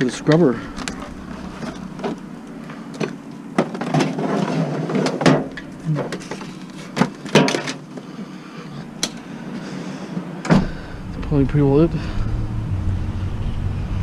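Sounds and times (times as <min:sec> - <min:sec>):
vehicle engine idling: 0:00.0 - 0:03.6, 0:05.5 - 0:14.0.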